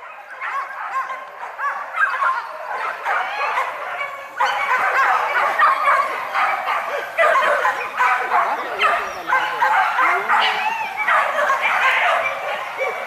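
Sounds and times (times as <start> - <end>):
dogs yelping: 0.0 - 13.0.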